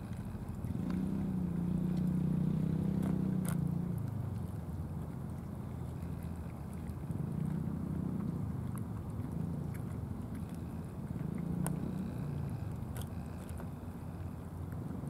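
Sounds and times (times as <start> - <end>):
cats chewing and licking food: 0.0 - 15.0.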